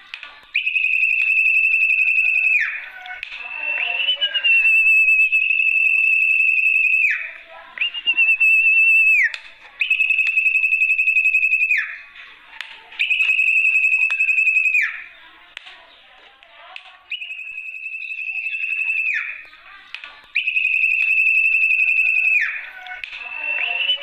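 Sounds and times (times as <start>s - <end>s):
high whistled bird lure call: 0.5s - 12.1s, 13.0s - 15.1s, 17.1s - 19.5s, 20.3s - 24.0s.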